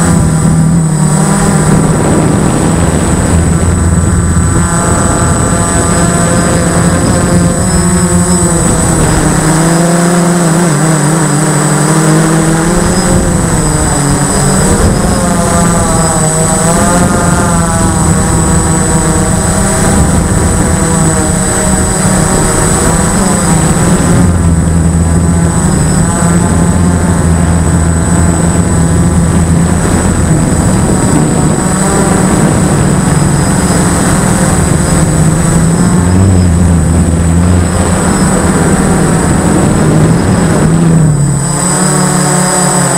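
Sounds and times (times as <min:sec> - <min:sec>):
constant high whine: 0:00.0 - 0:42.9
model aircraft motor droning: 0:00.0 - 0:42.9.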